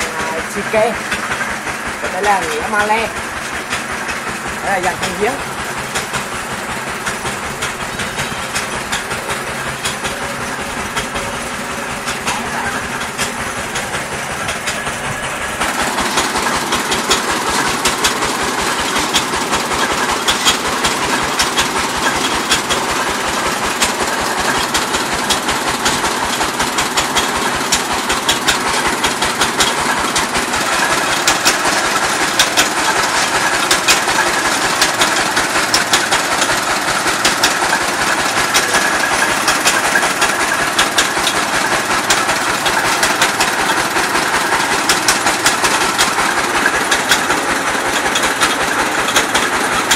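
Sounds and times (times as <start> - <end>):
drilling rig engine rattling: 0.0 - 49.9.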